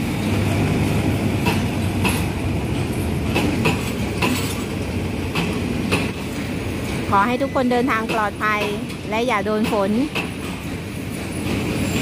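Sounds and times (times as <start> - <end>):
train carriages rumbling: 0.0 - 12.0
wheels clacking over rail joints: 0.1 - 12.0.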